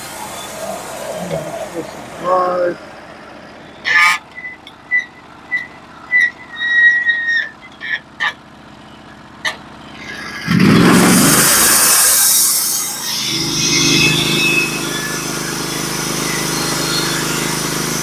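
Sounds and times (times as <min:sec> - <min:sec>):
sawmill engine idling and revving: 0:00.0 - 0:18.0.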